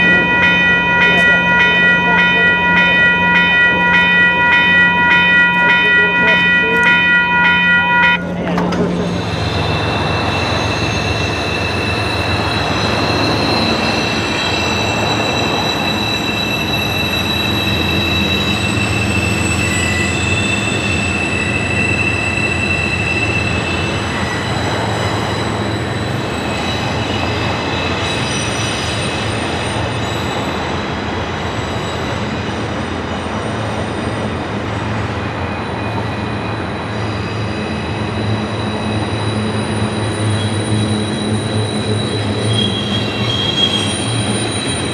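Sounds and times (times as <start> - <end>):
train cars rumbling past: 0.0 - 44.9
train wheels squealing on rails: 0.0 - 44.9.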